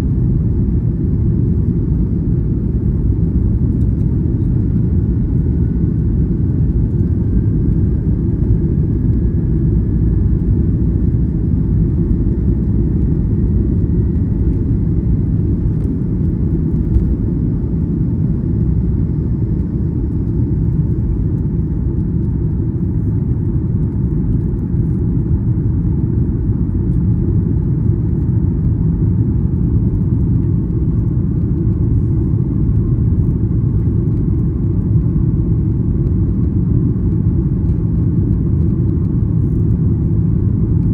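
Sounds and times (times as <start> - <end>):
airplane cabin rumble: 0.0 - 40.9
faint jet engine whine: 0.0 - 40.9.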